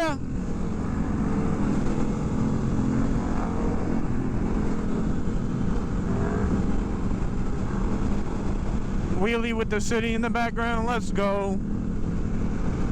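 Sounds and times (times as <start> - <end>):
motorcycle engines droning: 0.0 - 12.9.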